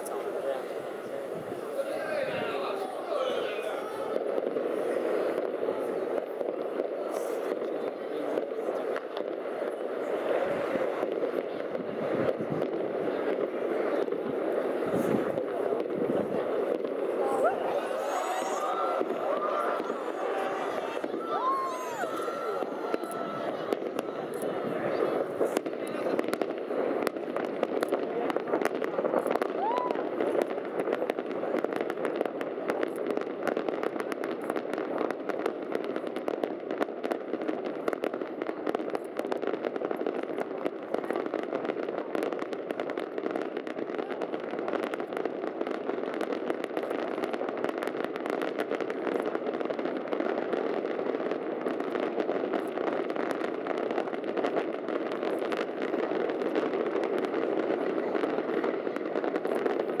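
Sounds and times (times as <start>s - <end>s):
fireworks crackling and popping: 0.0s - 60.0s.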